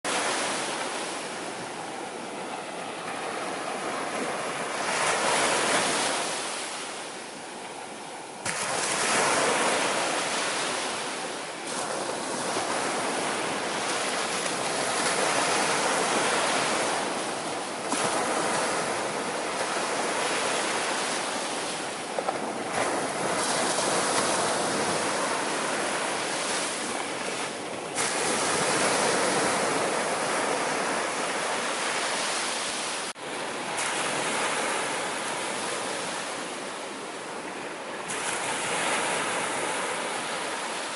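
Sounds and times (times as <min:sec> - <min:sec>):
waves breaking: 0:00.1 - 0:40.9.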